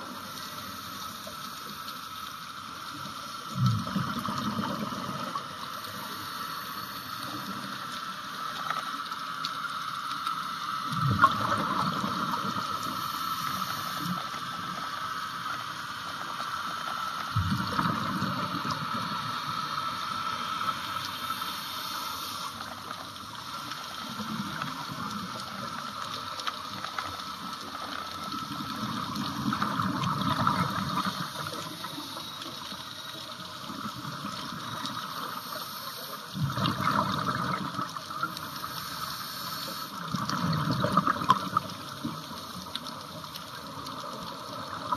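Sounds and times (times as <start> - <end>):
underwater hiss: 0.0 - 44.9
exhaled bubbles underwater: 3.0 - 6.5, 10.8 - 15.1, 16.1 - 44.9.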